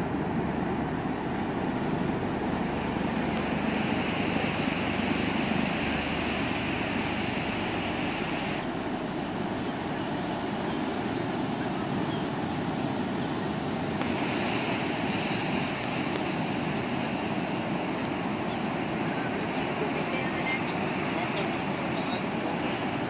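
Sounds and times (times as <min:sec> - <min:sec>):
small waves breaking on shore: 0:00.0 - 0:23.0.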